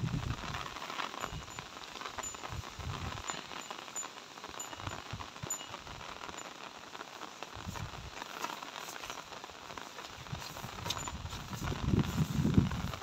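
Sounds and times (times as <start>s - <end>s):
rain pattering on leaves: 0.0s - 13.0s.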